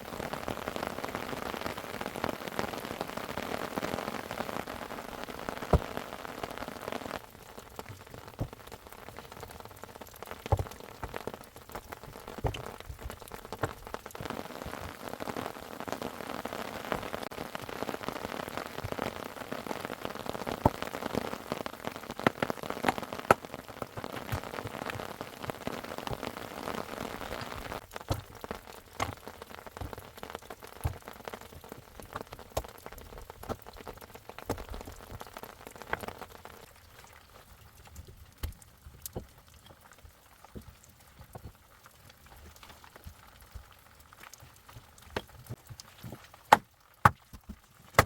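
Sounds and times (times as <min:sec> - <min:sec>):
rain falling: 0:00.0 - 0:48.0
water dripping: 0:04.4 - 0:48.0.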